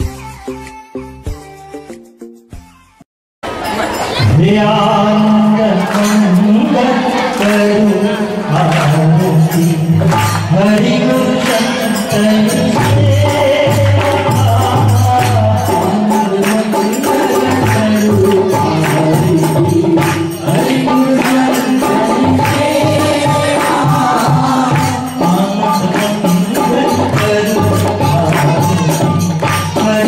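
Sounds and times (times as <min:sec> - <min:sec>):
steady percussion: 0:03.5 - 0:30.0
voices singing a chant: 0:03.7 - 0:30.0.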